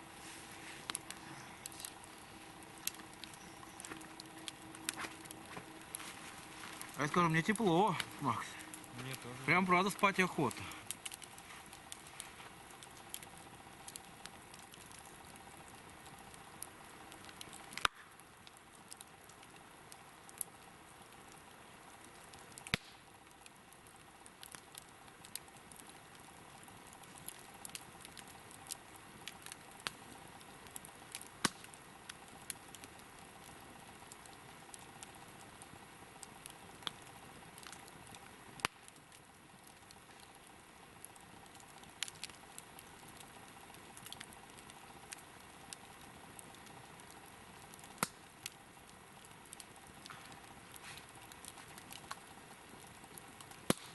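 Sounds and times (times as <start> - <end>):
campfire hiss: 0.0 - 53.9
fire crackling pops: 0.0 - 53.9.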